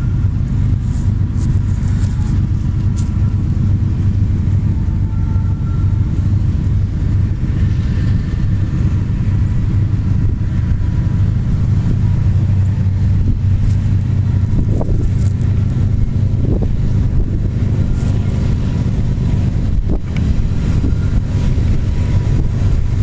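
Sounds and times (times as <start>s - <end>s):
diesel locomotive engine drone: 0.0s - 23.0s
wheels squealing on rails: 0.0s - 23.0s.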